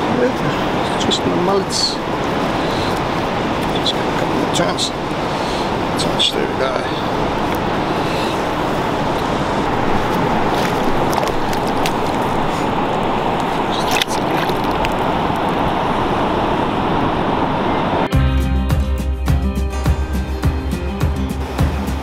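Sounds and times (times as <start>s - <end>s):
surf washing on sandy beach: 0.0s - 18.1s
wind rushing over microphone: 0.0s - 18.1s.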